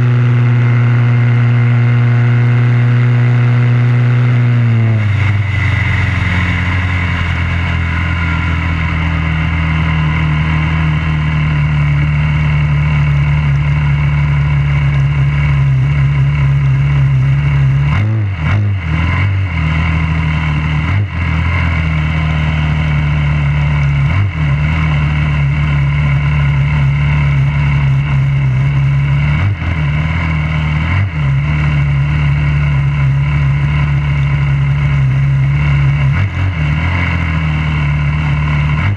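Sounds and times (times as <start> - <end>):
single-cylinder engine running: 0.0 - 38.9.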